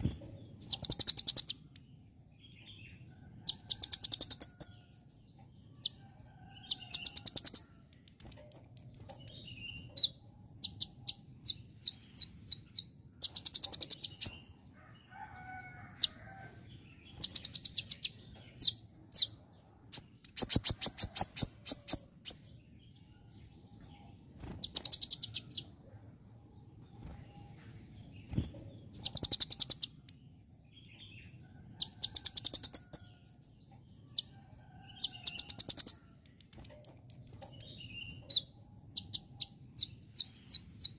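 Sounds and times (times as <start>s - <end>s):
bird singing chips and trills: 0.0s - 14.5s, 17.0s - 22.5s, 23.8s - 25.7s, 28.2s - 40.9s.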